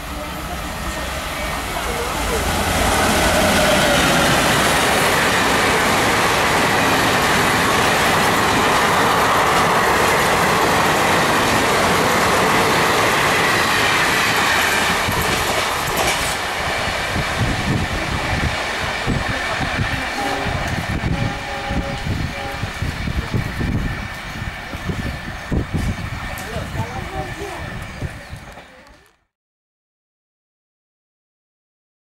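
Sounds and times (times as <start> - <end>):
train wheels running over track: 0.0 - 28.9.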